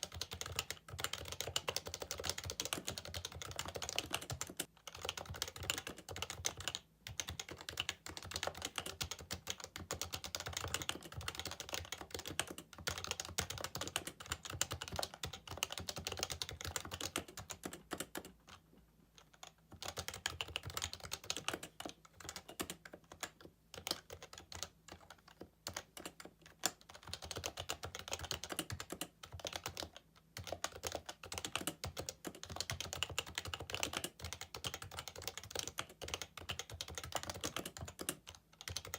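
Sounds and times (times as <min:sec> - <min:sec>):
fast typing on keyboard: 0:00.0 - 0:18.6, 0:19.2 - 0:38.9.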